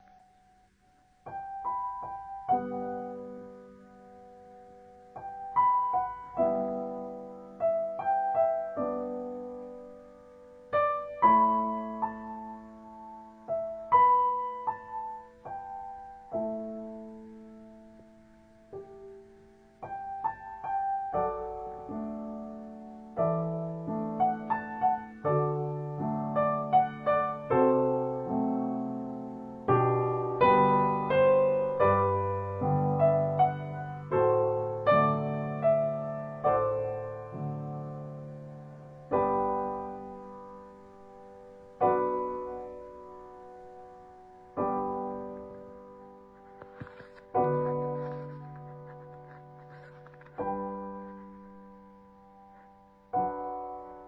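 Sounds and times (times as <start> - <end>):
gentle solo piano piece: 0.0 - 54.0.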